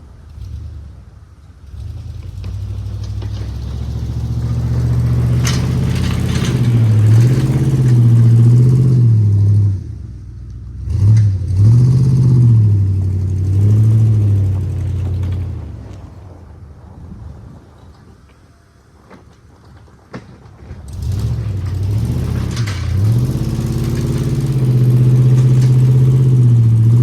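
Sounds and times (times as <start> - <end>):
truck engine revving: 0.0 - 16.4, 20.8 - 27.0.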